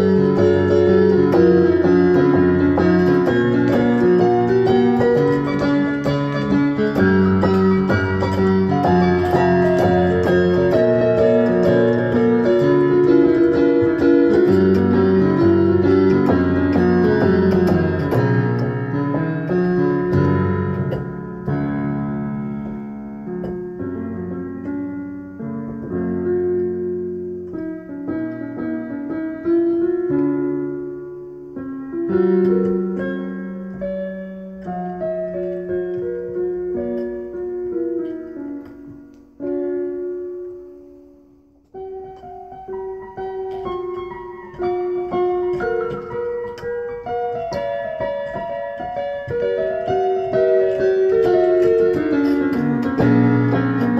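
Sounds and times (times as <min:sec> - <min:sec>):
piano music: 0:00.0 - 0:53.9.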